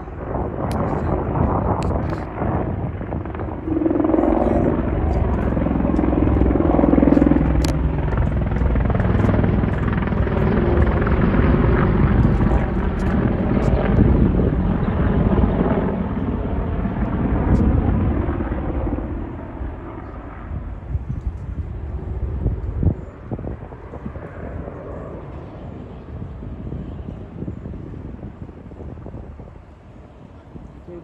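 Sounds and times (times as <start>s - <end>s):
helicopter flying low overhead: 0.0s - 31.0s.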